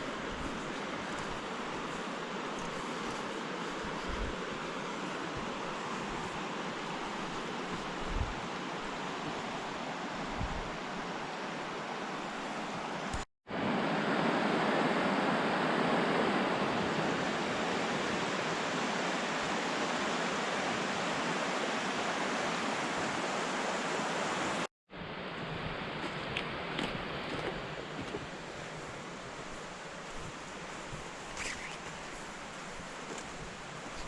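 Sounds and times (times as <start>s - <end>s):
flooded creek rushing: 0.0s - 34.0s.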